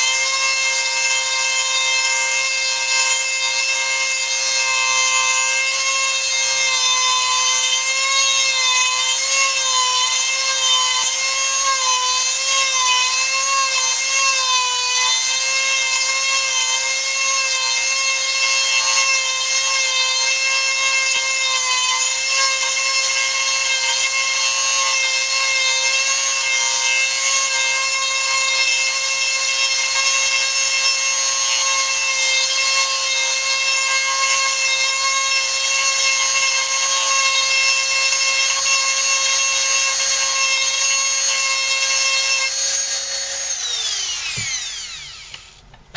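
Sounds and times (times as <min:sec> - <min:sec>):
rotary tool whining: 0:00.0 - 0:45.9.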